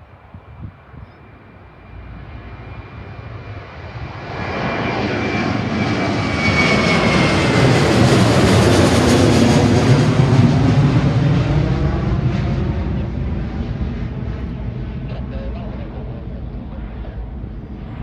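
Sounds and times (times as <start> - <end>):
jet engine high whine: 0.0 - 18.0
jet engines rumbling: 0.0 - 18.0.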